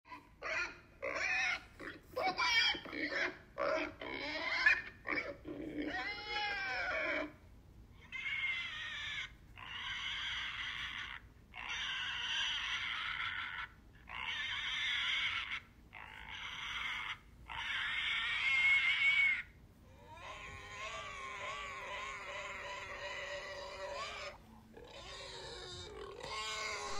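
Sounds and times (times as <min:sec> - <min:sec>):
lower-pitched pig call: 0:00.1 - 0:07.4, 0:08.0 - 0:26.9
pigs squealing: 0:00.1 - 0:07.4, 0:08.0 - 0:26.9.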